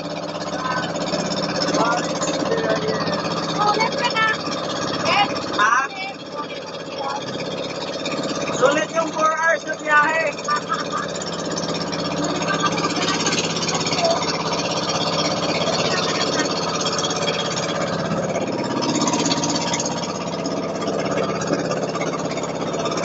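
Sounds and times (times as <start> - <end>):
motorboat engine running: 0.0 - 23.0
water rushing past hull: 0.0 - 23.0.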